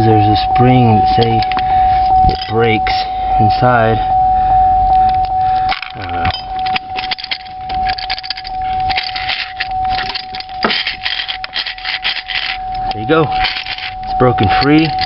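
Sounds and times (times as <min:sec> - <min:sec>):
high electronic tone: 0:00.0 - 0:15.0.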